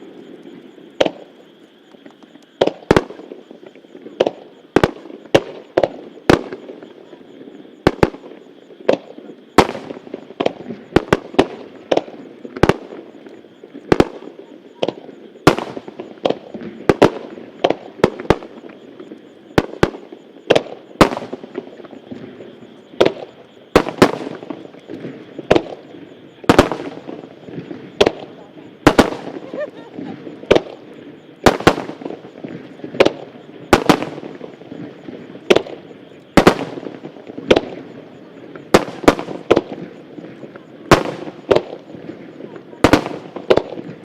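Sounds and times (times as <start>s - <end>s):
fireworks bursting: 0.0s - 44.0s
fireworks crackle: 0.0s - 44.0s.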